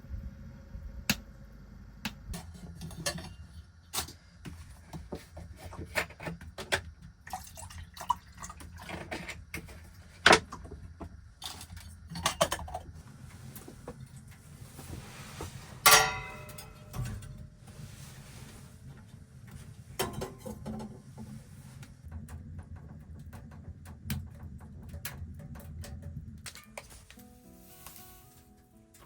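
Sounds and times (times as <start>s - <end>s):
low steady rumble: 0.0s - 6.0s, 8.4s - 27.0s.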